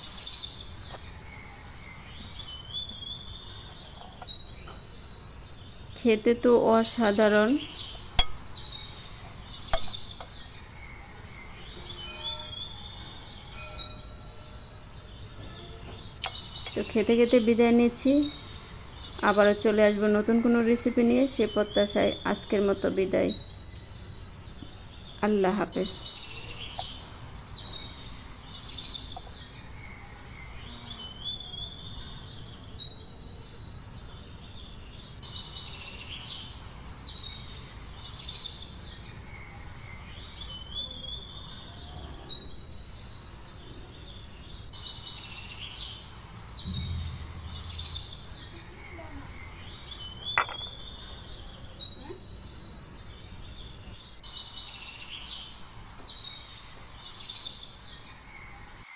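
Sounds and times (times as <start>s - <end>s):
low background hiss: 0.0s - 12.0s, 14.3s - 58.8s
songbirds chirping: 0.0s - 58.9s.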